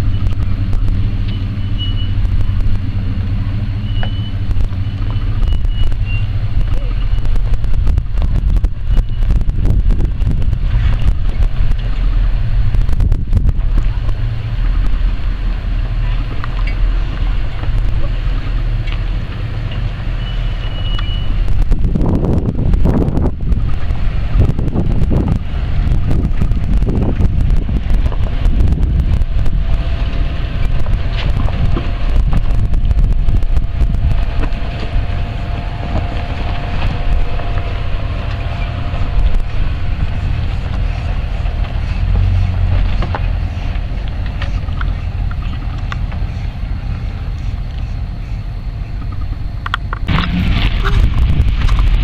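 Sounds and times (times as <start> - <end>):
faint steady engine hum: 0.0 - 52.0
suv engines running at low speed: 0.0 - 52.0
wind buffeting the microphone: 0.0 - 52.0.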